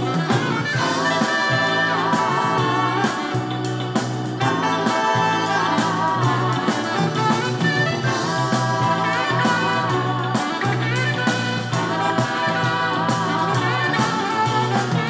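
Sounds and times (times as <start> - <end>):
song with singing and band: 0.0 - 15.0.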